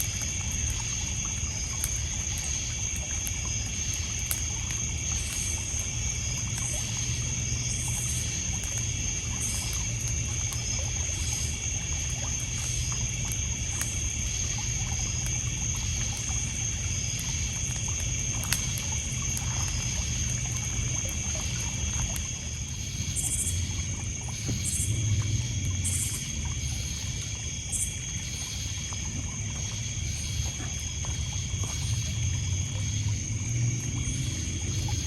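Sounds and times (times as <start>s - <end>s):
burning wood crackling: 0.0s - 35.0s
crickets and insects chirping: 0.0s - 35.0s
water lapping on pebble shore: 0.0s - 35.0s.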